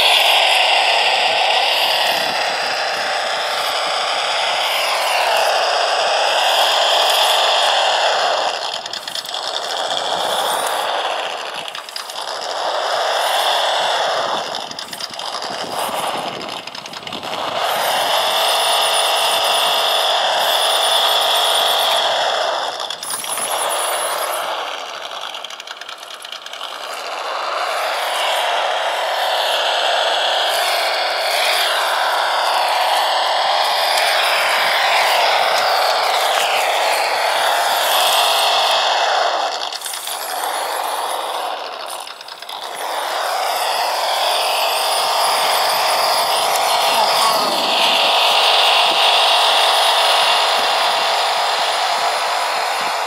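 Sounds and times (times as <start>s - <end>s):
electric drive whine: 0.0s - 53.0s
simulated truck engine revving: 0.0s - 53.0s.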